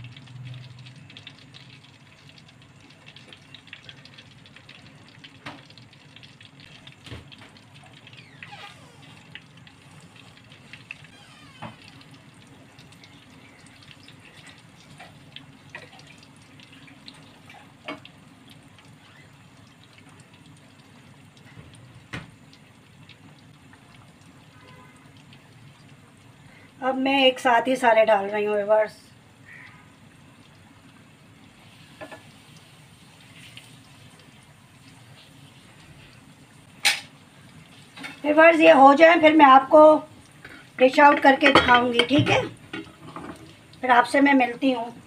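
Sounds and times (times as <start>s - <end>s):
oil sizzling and bubbling: 0.0s - 45.0s.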